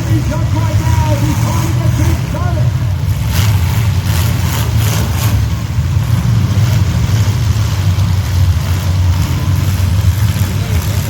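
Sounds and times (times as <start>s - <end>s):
car engines rumbling loud: 0.0s - 11.0s.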